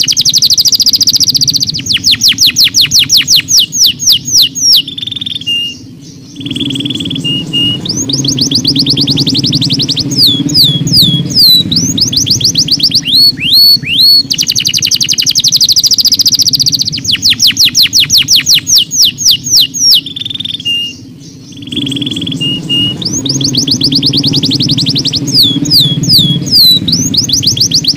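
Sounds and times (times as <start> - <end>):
canary singing: 0.0 - 27.9
low steady background drone: 0.0 - 27.9.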